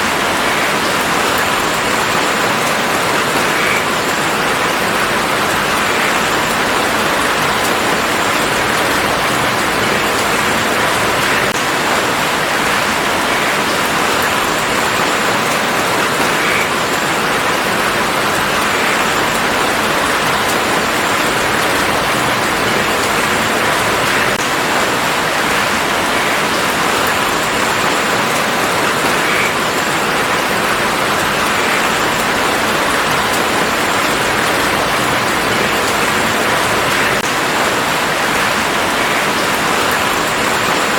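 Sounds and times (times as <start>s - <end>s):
rain falling on a garden: 0.0s - 40.9s.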